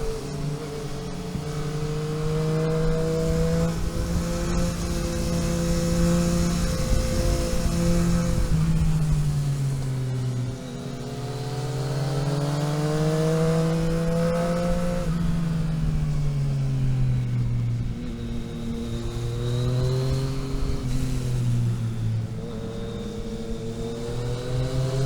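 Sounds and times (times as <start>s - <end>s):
vehicle engine while driving: 0.0s - 25.0s.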